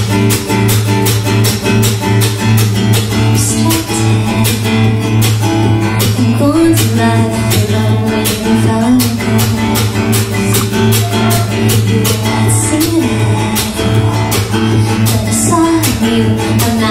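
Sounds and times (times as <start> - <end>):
acoustic guitar strumming: 0.0 - 16.9.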